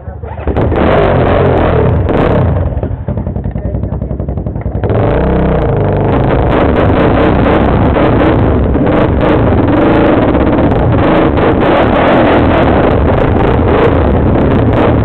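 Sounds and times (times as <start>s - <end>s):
quad bike engine revving: 0.0s - 15.0s.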